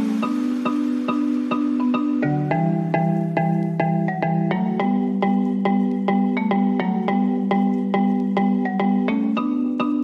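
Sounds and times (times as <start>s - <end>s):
music with bright struck notes: 0.0s - 10.0s.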